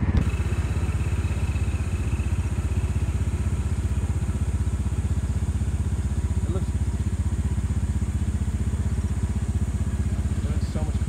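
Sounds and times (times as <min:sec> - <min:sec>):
motorbike engine idling: 0:00.0 - 0:11.0.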